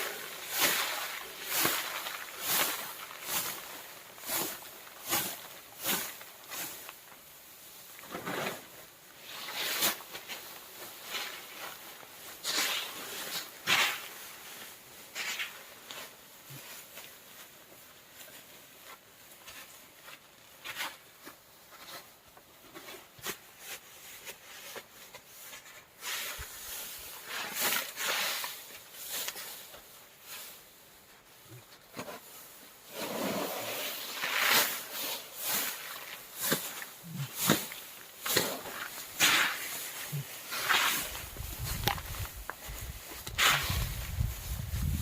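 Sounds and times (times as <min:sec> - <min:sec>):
rustling and crackling with ticks: 0:00.0 - 0:45.0.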